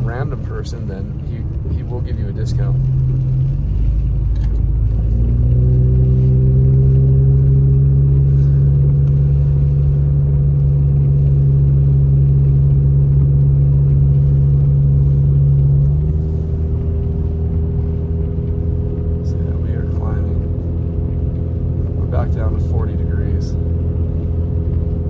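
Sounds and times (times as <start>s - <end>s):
car engine drone: 0.0s - 25.0s
road rumble: 0.0s - 25.0s.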